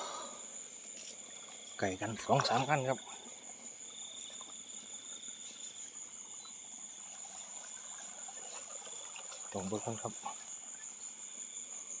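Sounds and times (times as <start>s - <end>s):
crickets ringing: 0.0s - 12.0s
low insect trill: 0.0s - 12.0s.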